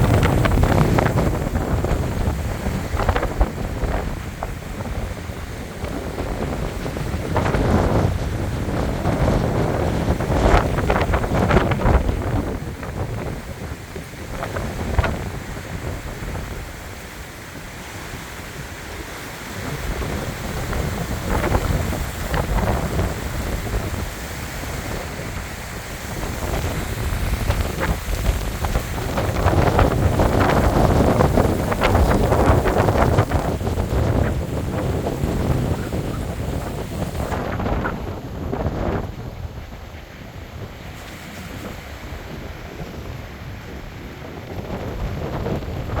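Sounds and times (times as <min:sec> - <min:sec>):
surf washing on beach: 0:00.0 - 0:46.0
wind buffeting microphone: 0:00.0 - 0:46.0.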